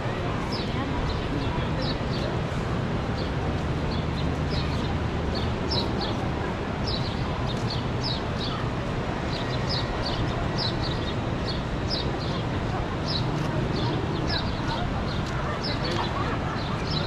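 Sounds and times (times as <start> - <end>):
background rush of noise: 0.0 - 17.0.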